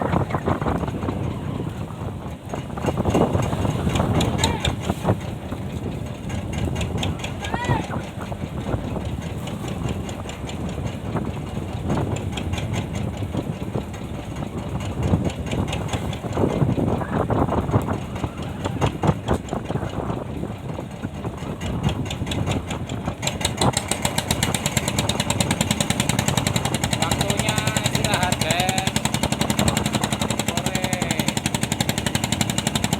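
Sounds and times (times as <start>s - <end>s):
boat engine knocking: 0.0s - 32.9s.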